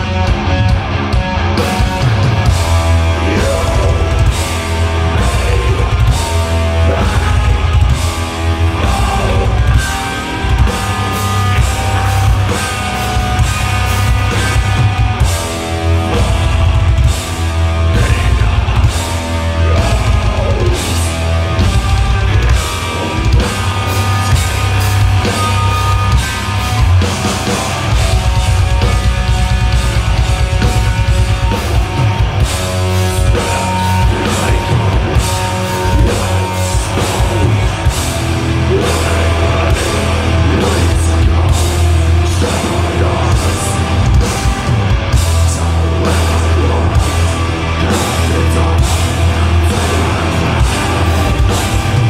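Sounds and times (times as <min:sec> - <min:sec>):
metal band playing live: 0:00.0 - 0:52.0.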